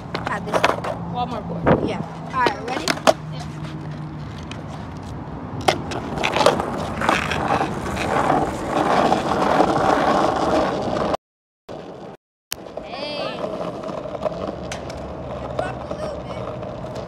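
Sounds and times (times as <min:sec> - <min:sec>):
skateboard clacks: 0:00.0 - 0:01.0, 0:02.3 - 0:05.0, 0:05.6 - 0:11.2, 0:12.6 - 0:17.0
skateboard wheels rolling on asphalt: 0:00.0 - 0:17.0.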